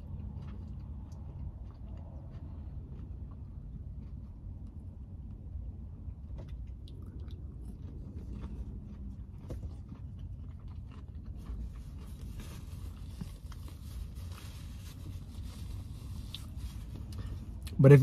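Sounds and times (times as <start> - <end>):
person chewing crunchy food: 0.0 - 17.8.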